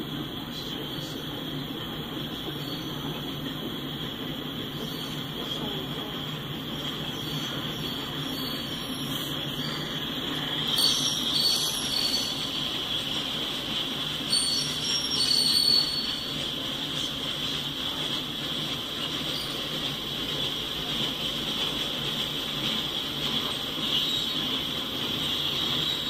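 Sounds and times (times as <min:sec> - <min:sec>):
train wheels squealing on rail: 0:00.0 - 0:26.0.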